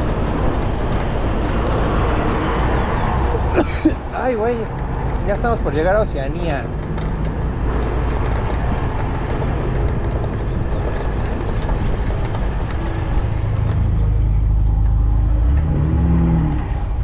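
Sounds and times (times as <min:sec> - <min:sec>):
large vehicle engine running: 0:00.0 - 0:17.0
road traffic: 0:00.0 - 0:17.0.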